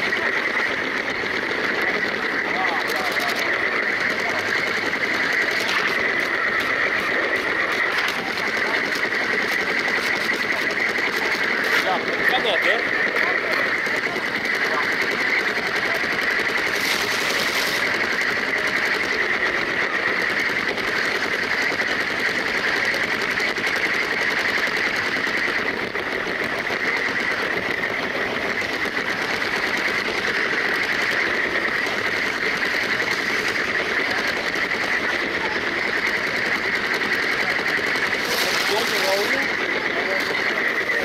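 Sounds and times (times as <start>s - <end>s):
plastic wheels clattering on track: 0.0s - 41.0s
toy train motor whirring: 0.0s - 41.0s.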